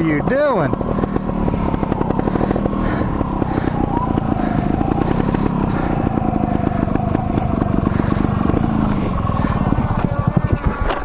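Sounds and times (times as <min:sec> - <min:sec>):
two-stroke motorcycle engine: 0:00.0 - 0:11.0.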